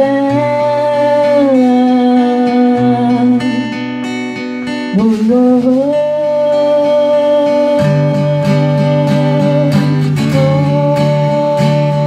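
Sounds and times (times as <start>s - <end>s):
acoustic guitar accompaniment: 0.0s - 12.0s.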